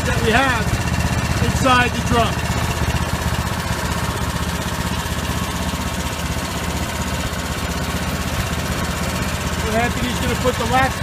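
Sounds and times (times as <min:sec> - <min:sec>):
small engine running steadily: 0:00.0 - 0:11.0.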